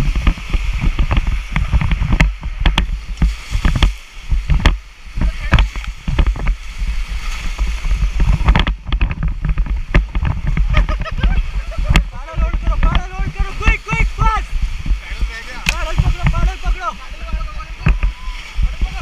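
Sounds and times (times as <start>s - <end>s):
splashes and knocks on raft: 0.0s - 19.0s
whitewater rushing: 0.0s - 19.0s.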